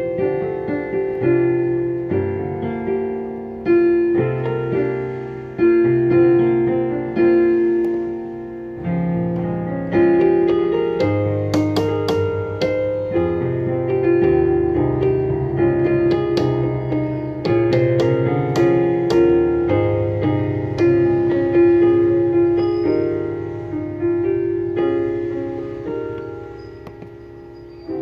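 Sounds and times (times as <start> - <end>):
slow hymn on piano: 0.0 - 28.0.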